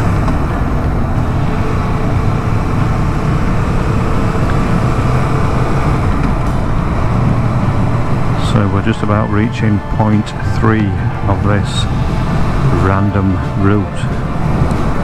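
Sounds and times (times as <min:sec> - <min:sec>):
motorcycle engine cruising: 0:00.0 - 0:15.0
road and wind rush: 0:00.0 - 0:15.0.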